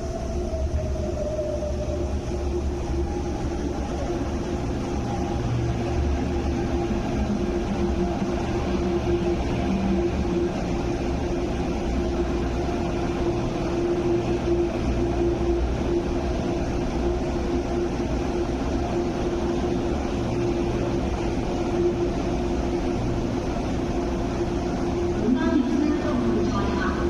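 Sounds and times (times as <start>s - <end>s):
constant mid-pitched tone: 0.0s - 27.0s
low machinery rumble and hum: 0.0s - 27.0s.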